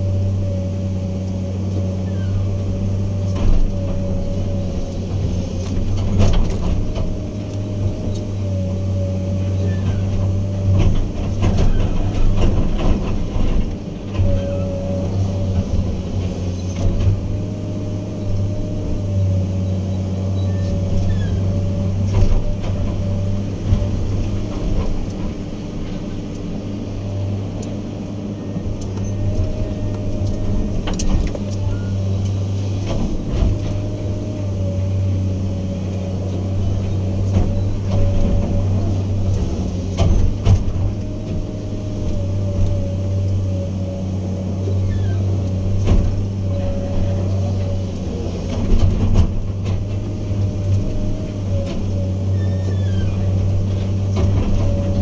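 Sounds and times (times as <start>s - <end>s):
diesel machine engine running: 0.0s - 55.0s.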